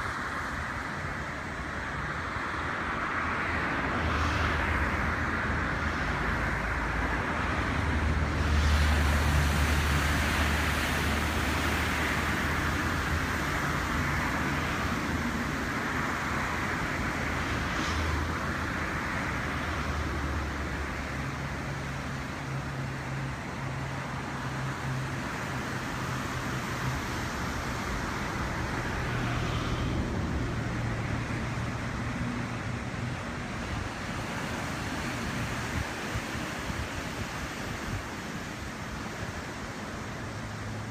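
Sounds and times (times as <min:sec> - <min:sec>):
waves washing on beach: 0:00.0 - 0:40.9
low engine-like hum: 0:01.0 - 0:40.9.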